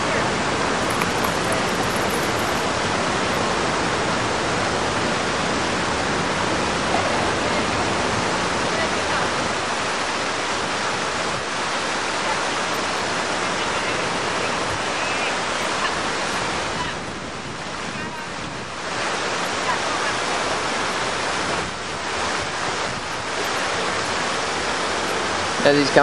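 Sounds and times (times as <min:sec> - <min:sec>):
fountain water splashing: 0:04.9 - 0:26.0.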